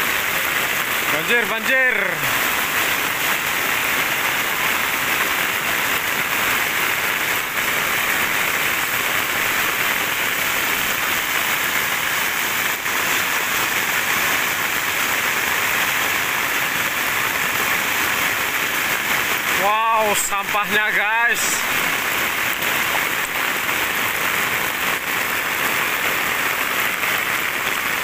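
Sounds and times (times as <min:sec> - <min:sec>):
floodwater flowing: 0:00.0 - 0:28.0
rain hissing on water: 0:00.0 - 0:28.0.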